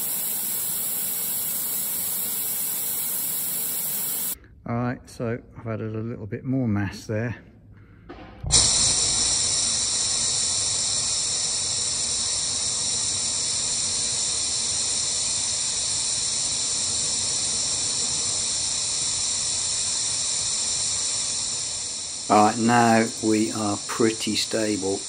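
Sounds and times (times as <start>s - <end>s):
compressed air blowgun hissing: 0.0s - 4.4s, 8.5s - 25.0s.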